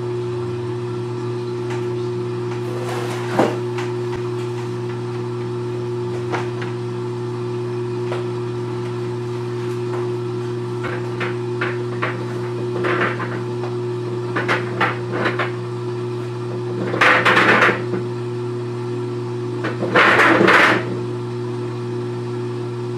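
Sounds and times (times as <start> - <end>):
washing machine humming: 0.0 - 22.9.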